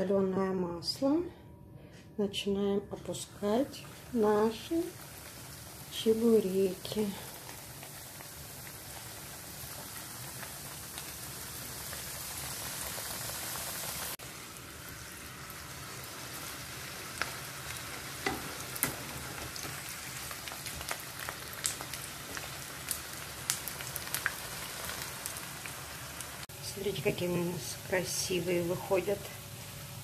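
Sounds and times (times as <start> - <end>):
dough frying in hot oil: 3.4 - 30.0.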